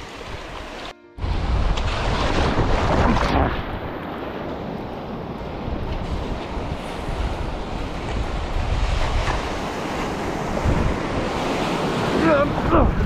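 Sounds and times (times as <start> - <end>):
waves washing on shore: 0.0 - 13.0
wind buffeting microphone: 0.0 - 13.0.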